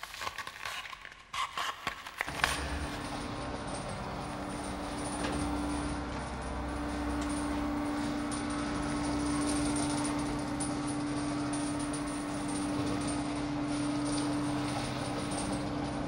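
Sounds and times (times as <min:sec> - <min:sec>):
steady low hum: 0:02.3 - 0:16.0.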